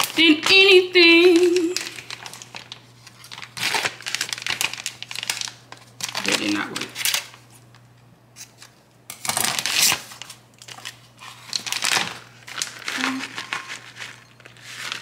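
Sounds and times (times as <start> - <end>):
plastic bag crinkling: 0.0 - 7.8, 8.6 - 15.0.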